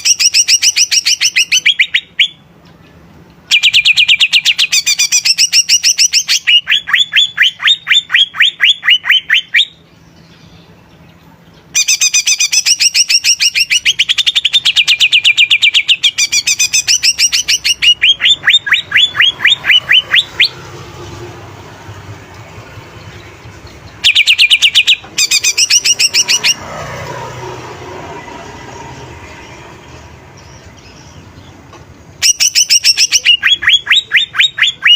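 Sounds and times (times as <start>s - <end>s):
bird singing sharp rising notes: 3.5s - 34.9s.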